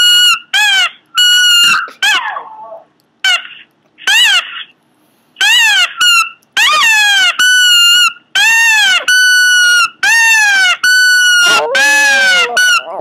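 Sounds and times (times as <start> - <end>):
small dog squealing: 0.0 - 4.7, 5.4 - 13.0.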